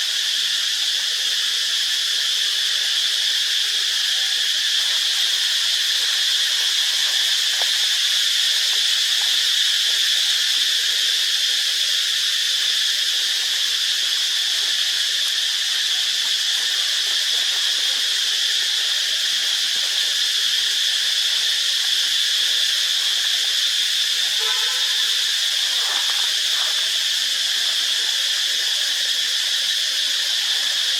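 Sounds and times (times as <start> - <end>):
insects buzzing: 0.0 - 30.9.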